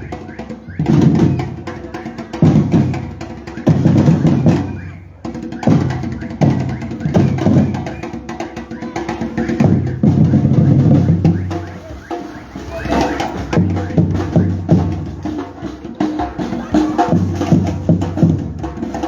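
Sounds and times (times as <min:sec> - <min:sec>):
bass drums pounding: 0:00.0 - 0:19.0.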